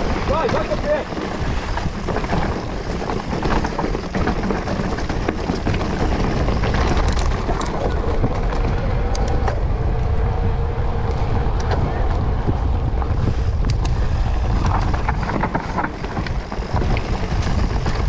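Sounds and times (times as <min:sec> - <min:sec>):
bike rattling and knocking: 0:00.0 - 0:18.0
tyres on dirt and stones: 0:00.0 - 0:18.0
wind buffeting microphone: 0:00.0 - 0:18.0.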